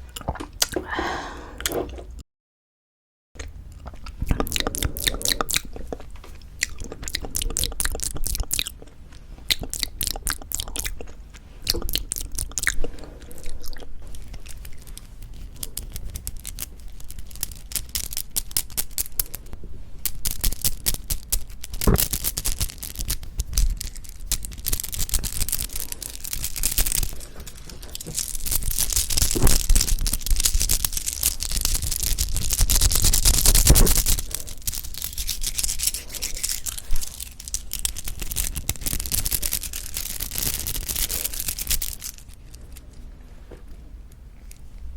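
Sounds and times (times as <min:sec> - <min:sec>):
sticky mouth clicks: 0:00.0 - 0:01.0, 0:03.4 - 0:42.3
chewing rice cake: 0:03.4 - 0:43.1.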